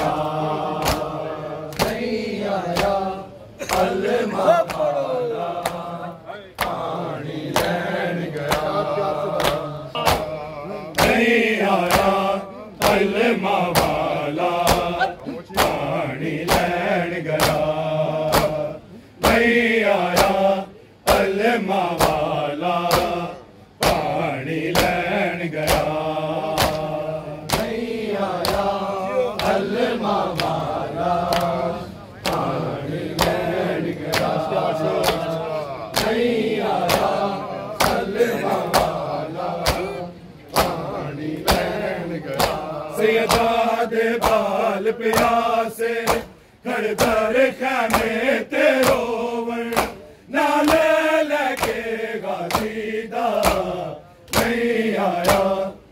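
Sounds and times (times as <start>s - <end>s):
men chanting together: 0.0s - 55.9s
rhythmic chest-beating slaps: 0.0s - 55.9s.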